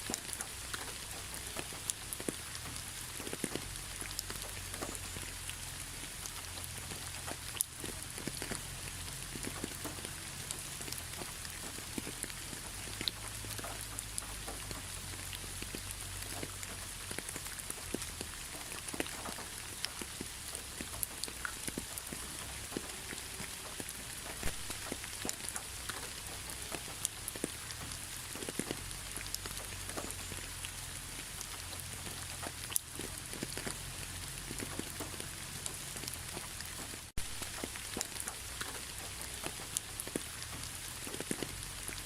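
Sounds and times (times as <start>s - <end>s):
raindrops clicking close by: 0.0s - 42.0s
steady rain hiss: 0.0s - 42.0s.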